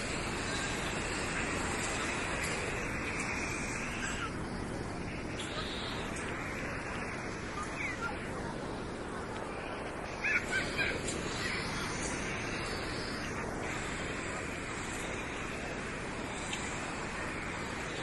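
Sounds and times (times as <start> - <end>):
distant beach crowd: 0.0 - 18.0
sea surf: 0.0 - 18.0.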